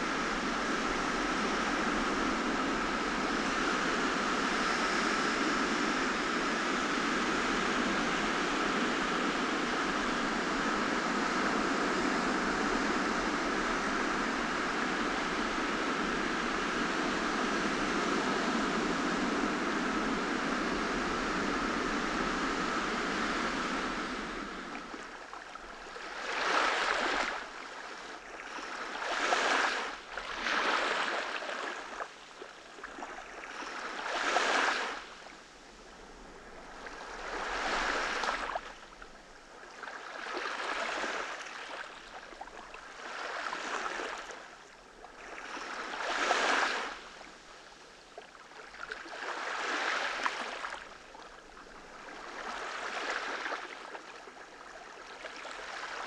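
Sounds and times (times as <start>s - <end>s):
waves washing onto sand: 0.0s - 56.0s.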